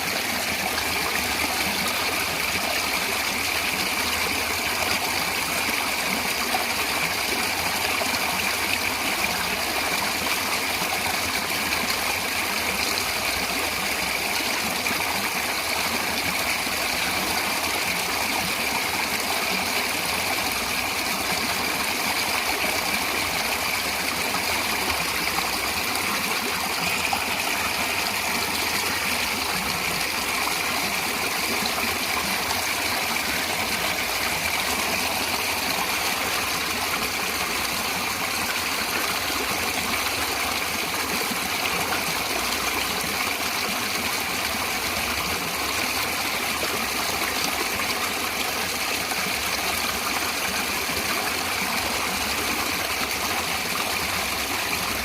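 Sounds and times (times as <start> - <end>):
running water flowing: 0.0 - 55.0.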